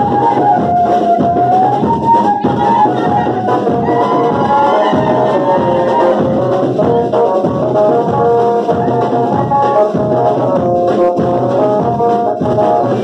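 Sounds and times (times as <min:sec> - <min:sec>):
brass instruments playing melody: 0:00.0 - 0:13.0
steady drum beat: 0:00.0 - 0:13.0.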